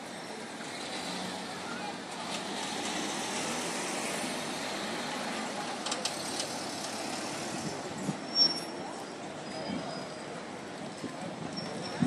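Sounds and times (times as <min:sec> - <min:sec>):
cars passing: 0:00.0 - 0:10.8
traffic and crowd noise: 0:00.0 - 0:12.0.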